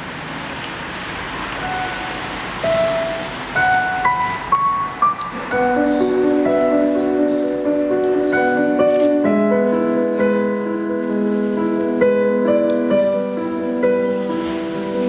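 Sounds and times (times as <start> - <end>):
slow keyboard melody: 1.2 - 15.0.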